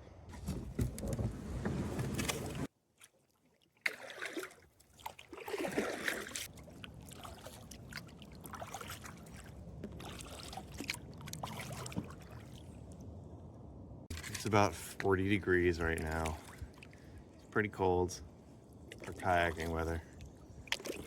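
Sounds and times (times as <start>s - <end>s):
water splashing around a kayak: 0.4s - 13.2s, 14.1s - 21.0s.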